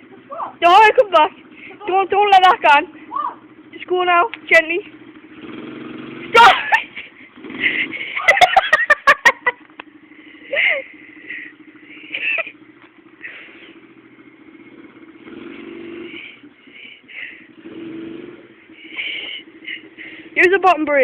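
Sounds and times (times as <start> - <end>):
motorbike engine idling: 0.0 - 21.0.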